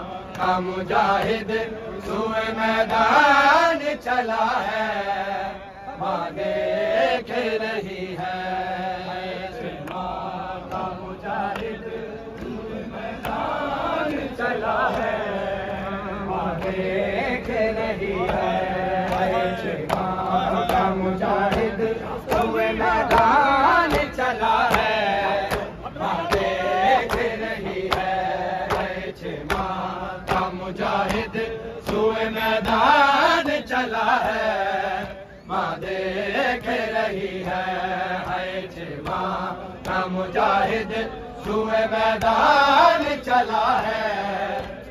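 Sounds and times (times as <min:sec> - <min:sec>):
men chanting in unison: 0:00.0 - 0:44.9
rhythmic chest-beating strikes: 0:06.0 - 0:44.9.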